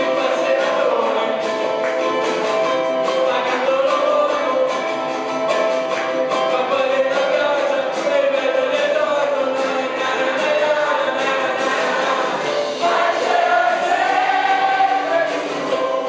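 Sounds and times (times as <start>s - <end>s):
group of voices singing: 0.0s - 1.8s, 3.1s - 5.0s, 6.3s - 16.0s
drum kit beat: 0.0s - 16.0s
ukulele ensemble strumming: 0.0s - 16.0s.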